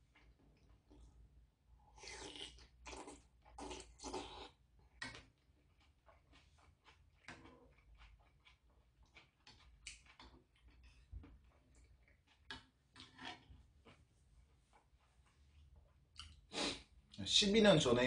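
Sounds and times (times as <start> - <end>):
faint chewing: 0.0 - 17.2.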